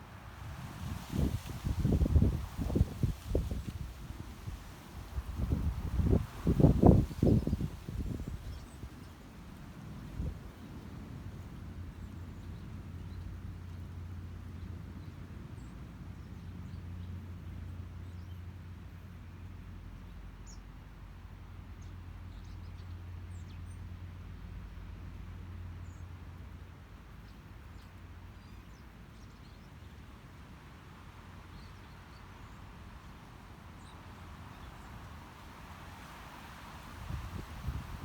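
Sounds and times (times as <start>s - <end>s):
soft wind hiss: 0.0s - 38.0s.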